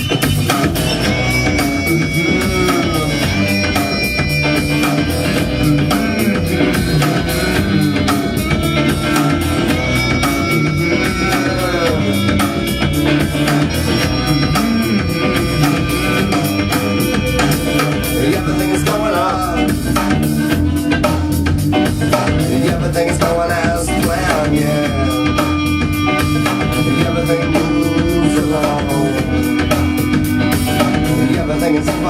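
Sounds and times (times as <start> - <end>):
drum-kit beat: 0.0 - 32.0
guitar: 0.0 - 32.0
stand-up bass: 0.0 - 32.0.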